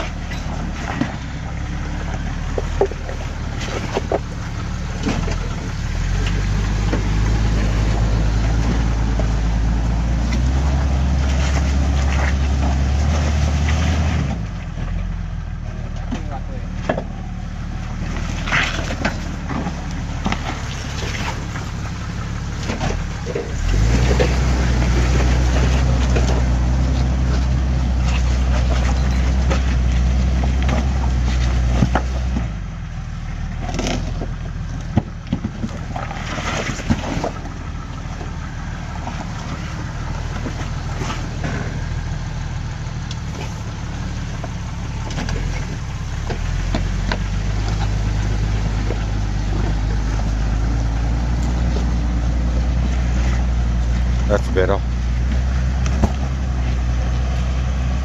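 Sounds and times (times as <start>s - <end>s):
off-road vehicle engine climbing: 0.0s - 58.0s.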